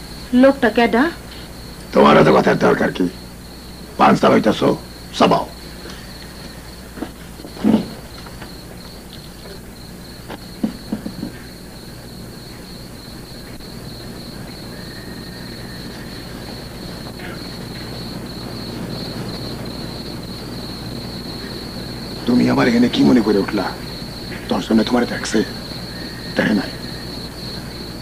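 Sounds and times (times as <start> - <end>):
crickets chirring: 0.0 - 28.0.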